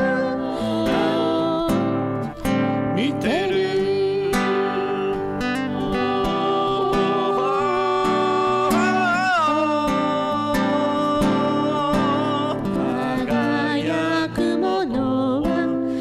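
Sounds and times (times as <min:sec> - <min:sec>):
man singing long held notes: 0:00.0 - 0:01.8, 0:02.9 - 0:15.6.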